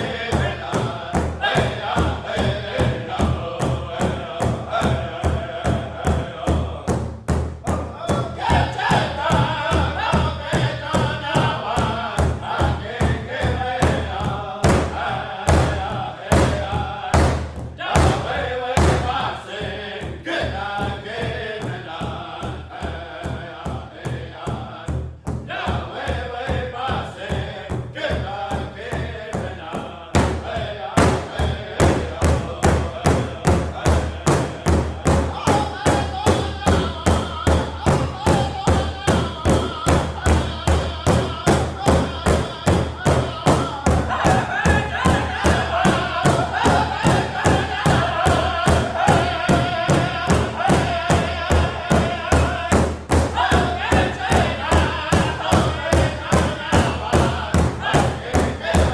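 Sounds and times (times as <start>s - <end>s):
large drum steady beat: 0.0s - 58.9s
men singing together: 0.0s - 58.9s.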